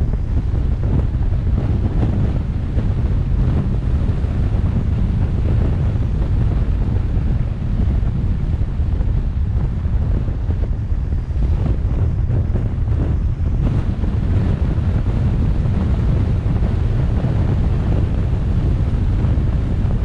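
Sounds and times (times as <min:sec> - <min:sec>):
car road rumble: 0:00.0 - 0:20.0
wind buffeting microphone: 0:00.0 - 0:20.0.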